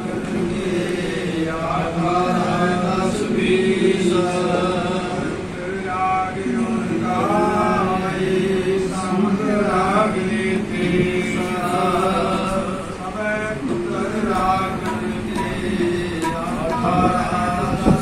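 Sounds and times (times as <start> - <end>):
man chanting through a microphone: 0.0 - 18.0.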